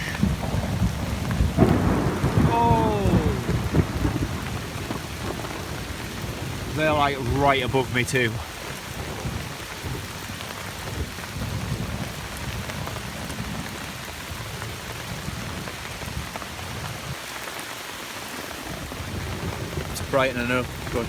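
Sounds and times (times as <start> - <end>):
rolling thunder: 0.0 - 15.7, 18.6 - 21.0
steady rain: 0.0 - 21.0.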